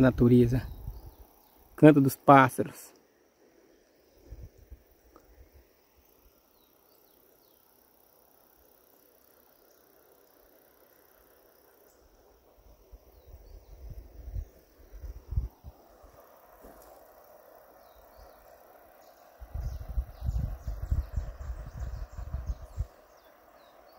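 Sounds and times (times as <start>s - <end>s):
high-pitched insect drone: 0.0s - 2.8s, 4.0s - 23.9s.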